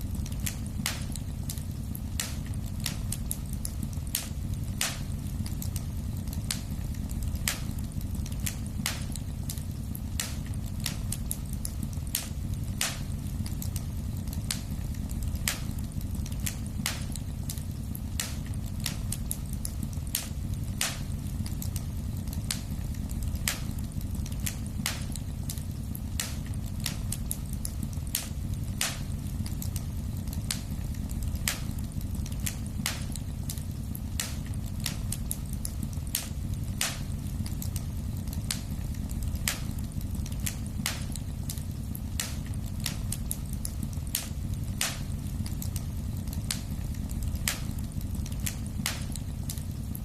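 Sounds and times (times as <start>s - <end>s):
low rumble of flames: 0.0s - 50.0s
wood fire crackling and popping: 0.0s - 50.0s.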